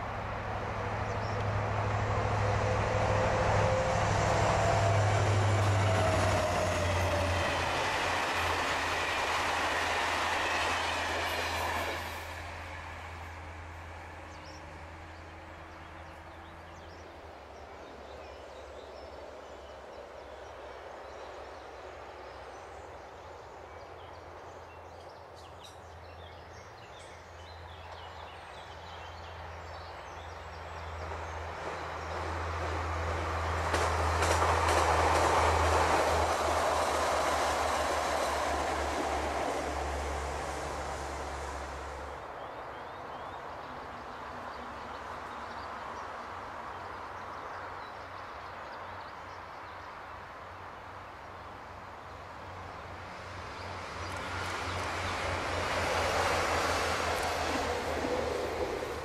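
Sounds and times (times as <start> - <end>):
passenger coaches rolling on rails: 0.0 - 59.0
train approaching: 0.0 - 59.0.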